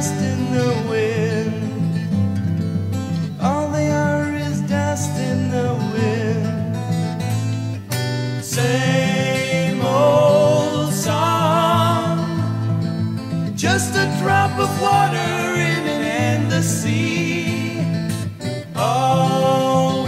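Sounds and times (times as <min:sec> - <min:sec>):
guitar: 0:00.0 - 0:20.0.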